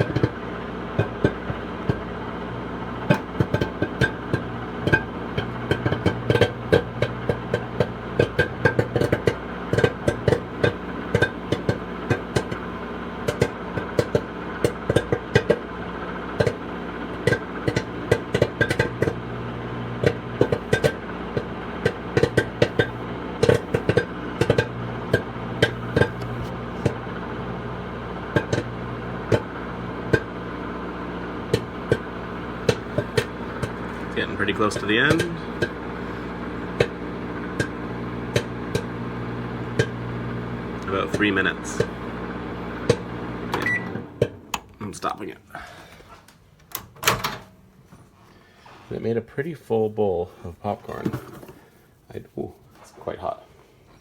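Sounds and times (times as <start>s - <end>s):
popcorn popping: 0.0s - 44.8s
microwave oven hum: 0.0s - 48.8s.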